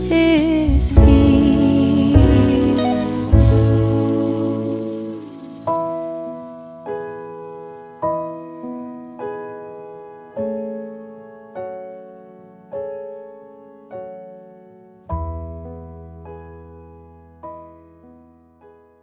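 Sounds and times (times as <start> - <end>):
slow gentle piano chords: 0.0 - 19.0.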